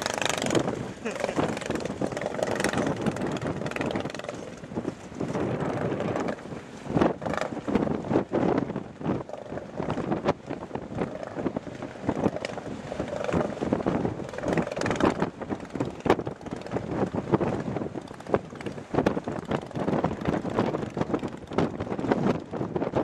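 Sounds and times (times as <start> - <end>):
water splashing and rushing: 0.0 - 23.0
wind buffeting microphone: 0.0 - 23.0.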